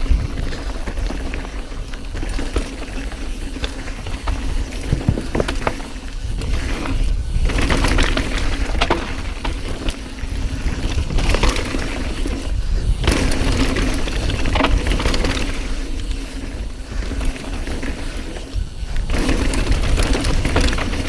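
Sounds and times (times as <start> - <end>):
bike clattering over bumps: 0.0 - 21.0
bike tyre rumble: 0.0 - 21.0
wind: 0.0 - 21.0.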